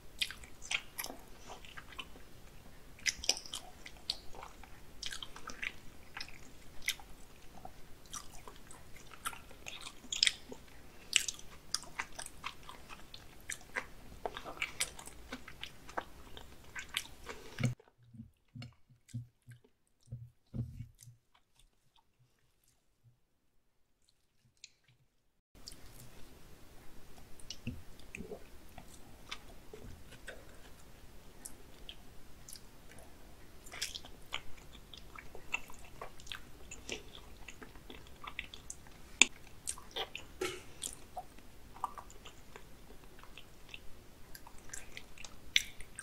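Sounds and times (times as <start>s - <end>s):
wet chewing mouth sounds: 0.2s - 20.2s, 27.1s - 46.0s.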